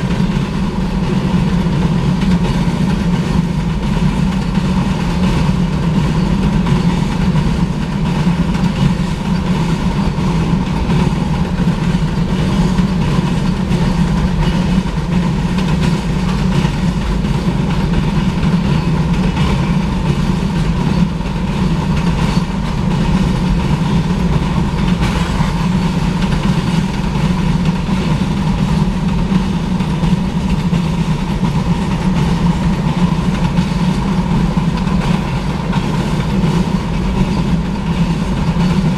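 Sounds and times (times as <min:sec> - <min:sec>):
freight train rumbling past: 0:00.0 - 0:38.9
steady low hum: 0:00.0 - 0:38.9.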